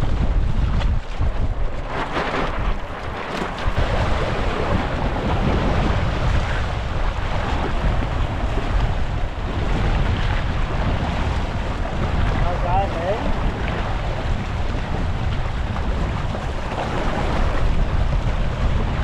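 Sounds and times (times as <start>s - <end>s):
wind buffeting microphone: 0.0s - 19.0s
water splashing past hull: 0.2s - 19.0s.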